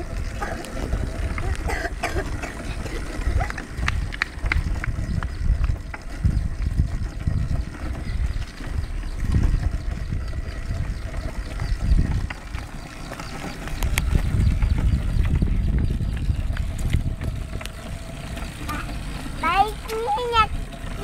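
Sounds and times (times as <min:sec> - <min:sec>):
toy car rolling on brick paving: 0:00.0 - 0:21.0.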